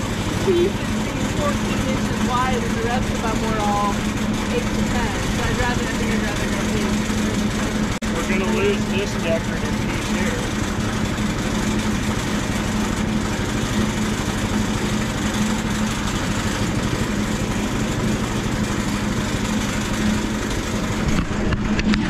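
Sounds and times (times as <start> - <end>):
small gasoline engine idling: 0.0 - 22.0.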